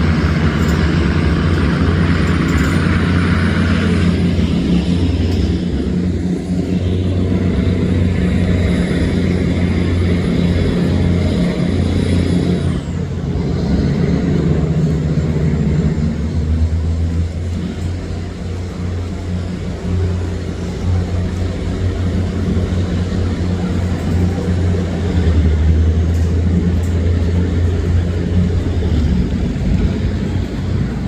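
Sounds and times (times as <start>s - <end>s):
diesel engine throbbing: 0.0s - 31.0s.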